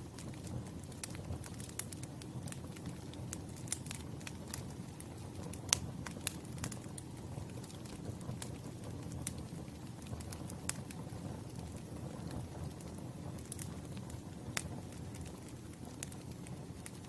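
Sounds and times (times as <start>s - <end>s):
burning wood crackling and popping: 0.0s - 17.0s
campfire flames rumbling: 0.0s - 17.0s.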